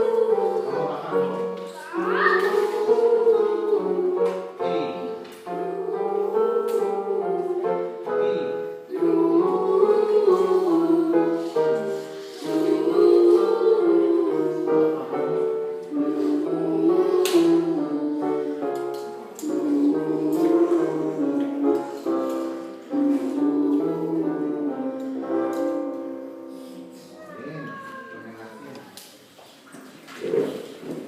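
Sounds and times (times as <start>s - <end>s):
choir singing: 0.0s - 27.0s
piano accompaniment: 0.0s - 28.0s.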